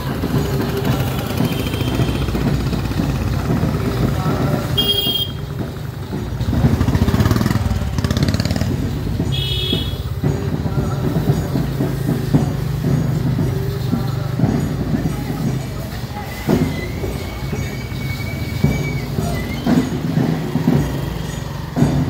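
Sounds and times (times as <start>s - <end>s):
electric rickshaw passing: 0.0s - 22.0s
traffic hum: 0.0s - 22.0s.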